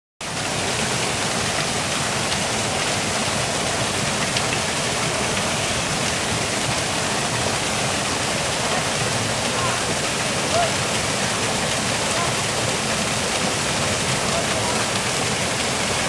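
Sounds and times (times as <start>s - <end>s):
small waterfall splashing into pool: 0.2s - 16.0s.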